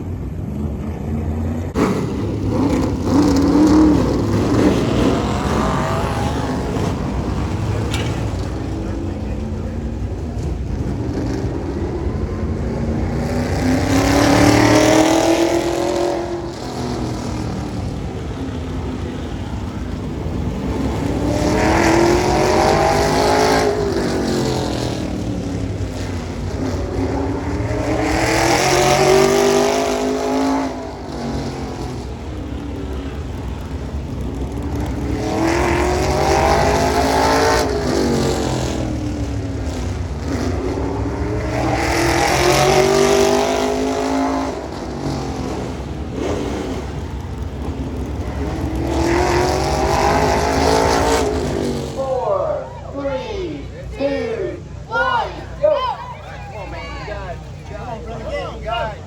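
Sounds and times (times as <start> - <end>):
race car engine passing: 0.0 - 59.0.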